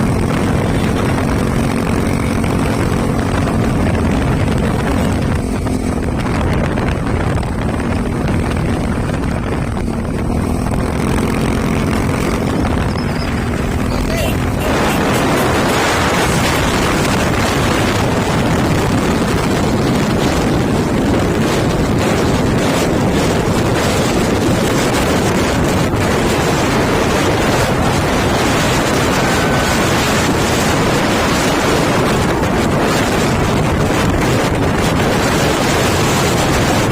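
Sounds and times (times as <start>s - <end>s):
wind rushing on microphone: 0.0s - 36.9s.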